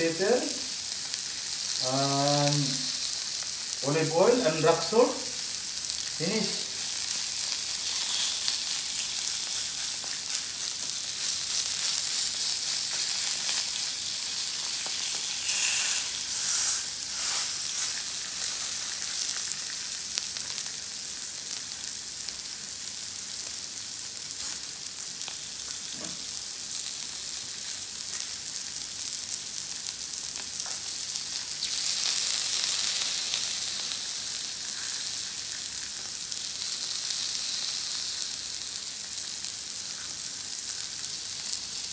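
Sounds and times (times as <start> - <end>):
fish sizzling on grill plate: 0.0 - 41.9.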